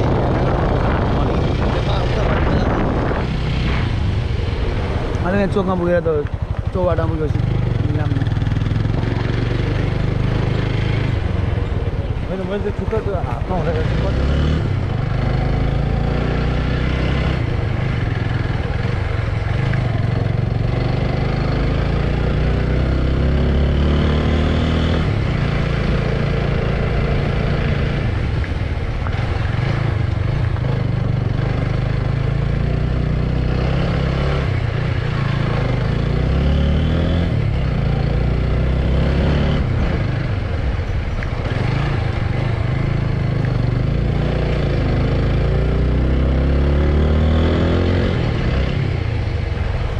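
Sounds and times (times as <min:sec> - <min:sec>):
constant rushing noise: 0:00.0 - 0:49.9.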